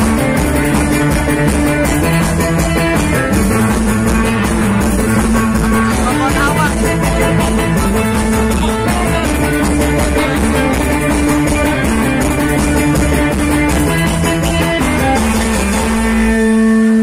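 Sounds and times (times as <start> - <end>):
loud guitar and drums music: 0.0 - 17.0.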